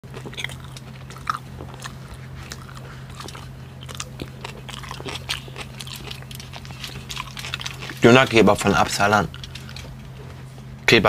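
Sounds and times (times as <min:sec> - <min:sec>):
man chewing crunchy food: 0:00.0 - 0:10.7.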